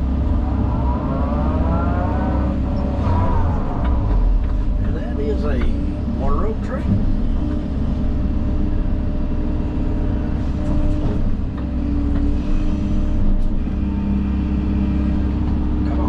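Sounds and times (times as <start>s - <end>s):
heavy machine engine droning: 0.0s - 16.0s.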